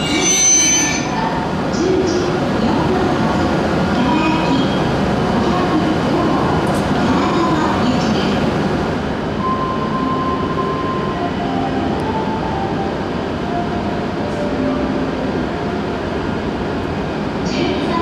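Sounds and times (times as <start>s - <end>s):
train rumbling hum: 0.0s - 18.0s.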